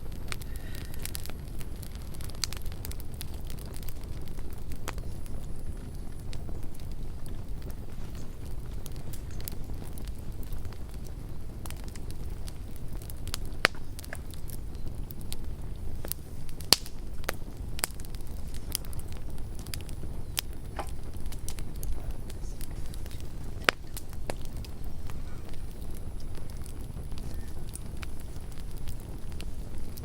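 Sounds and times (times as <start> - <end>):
burning wood crackling and popping: 0.0 - 30.0
campfire flames rumbling: 0.0 - 30.0.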